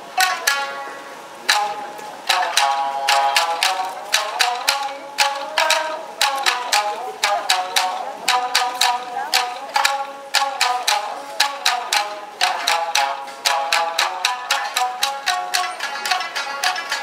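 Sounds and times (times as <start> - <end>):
shamisen ensemble playing: 0.0 - 17.0.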